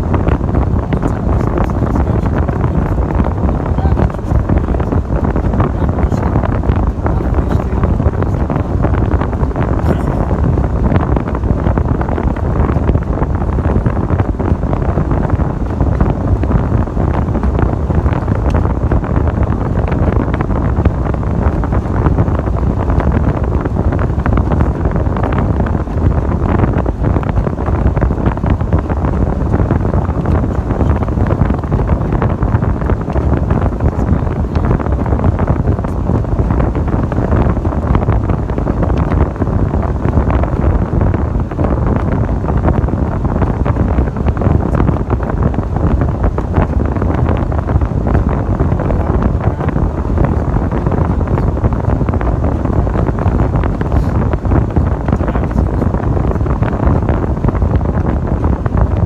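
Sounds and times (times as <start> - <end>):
road and engine drone: 0.0 - 59.0
wind buffeting microphone: 0.0 - 59.0
wind rushing through truck window: 0.0 - 59.0.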